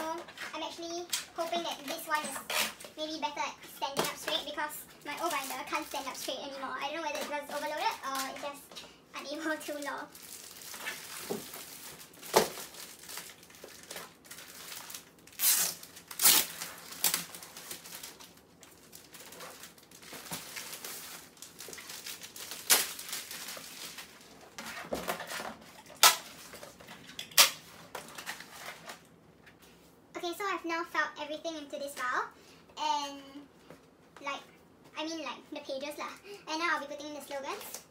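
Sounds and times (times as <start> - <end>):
plastic sleeves rustling and crinkling: 0.0 - 29.7, 37.2 - 37.9.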